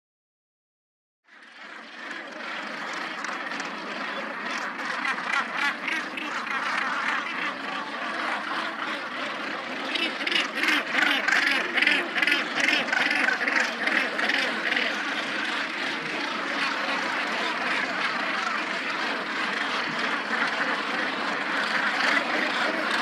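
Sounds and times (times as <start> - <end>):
seabird colony calling: 1.4 - 23.0.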